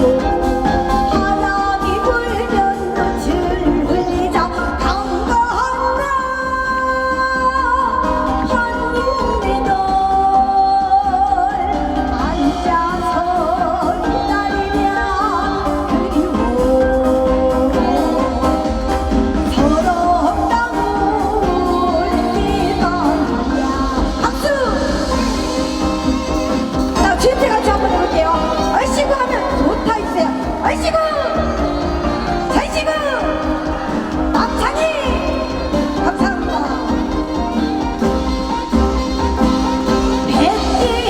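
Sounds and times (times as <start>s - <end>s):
amplified accompaniment with bass: 0.0s - 41.0s
woman singing with wide vibrato: 0.0s - 41.0s.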